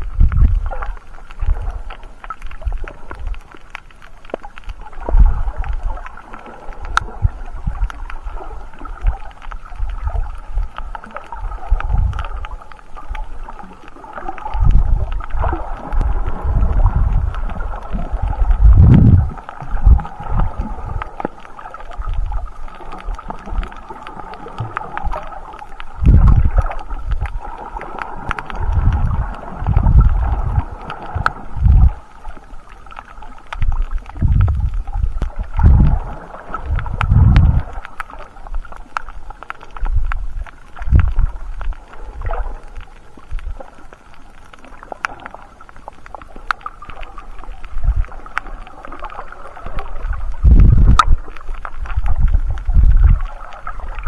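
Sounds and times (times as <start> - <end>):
underwater water surges: 0.0 - 54.0
faint clicks: 0.2 - 54.0.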